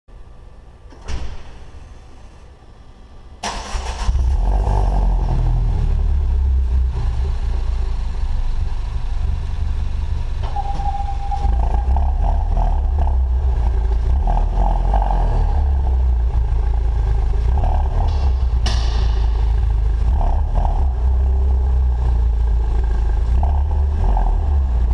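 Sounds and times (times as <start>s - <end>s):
car engine starting and idling: 0.4s - 24.9s.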